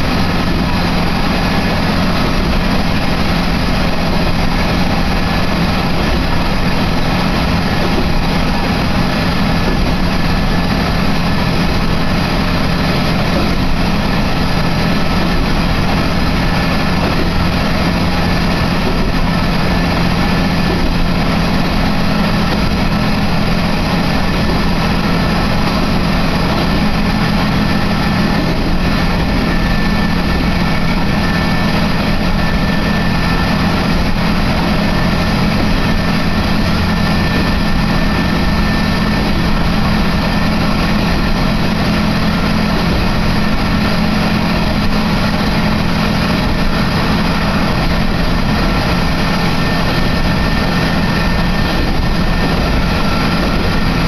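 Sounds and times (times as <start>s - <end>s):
train engine and wheels droning: 0.0s - 54.0s.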